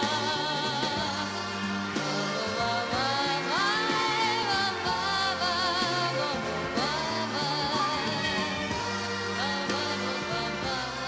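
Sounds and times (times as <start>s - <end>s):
pop song with vibrato melody: 0.0s - 11.0s.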